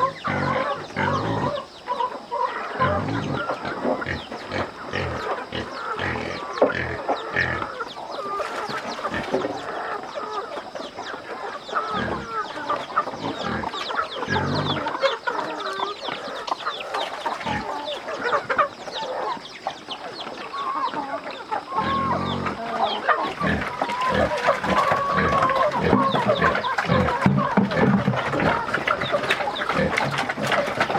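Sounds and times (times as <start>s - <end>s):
chickens clucking and cheeping: 0.0s - 30.9s.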